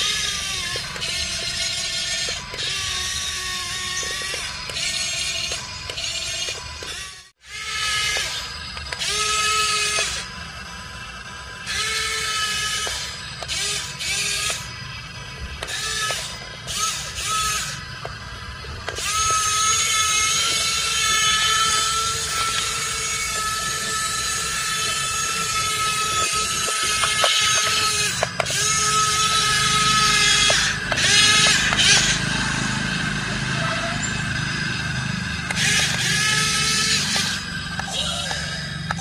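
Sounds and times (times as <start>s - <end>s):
toy excavator motors whining: 0.0s - 39.0s.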